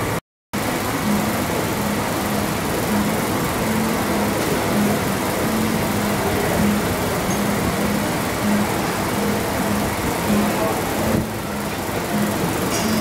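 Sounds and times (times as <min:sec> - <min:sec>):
rushing machinery or traffic noise: 0:00.0 - 0:13.0.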